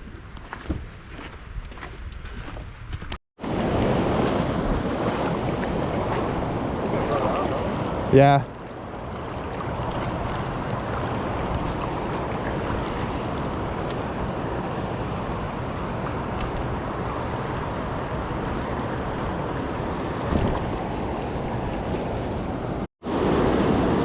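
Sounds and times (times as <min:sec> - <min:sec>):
wind on microphone: 0:00.0 - 0:08.1, 0:08.7 - 0:24.0
river water rushing: 0:03.4 - 0:24.0.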